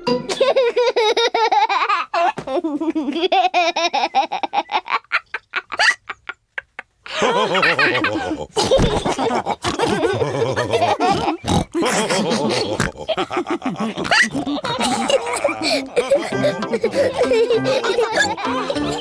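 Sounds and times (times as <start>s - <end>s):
cartoon pigs laughing and snorting: 0.2s - 19.0s.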